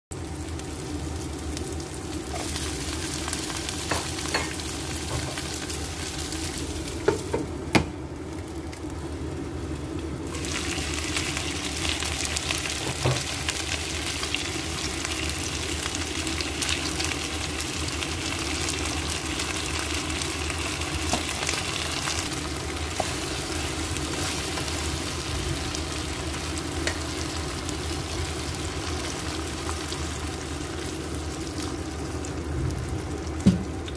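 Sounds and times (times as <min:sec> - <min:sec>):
food sizzling in oil: 0:00.2 - 0:33.9.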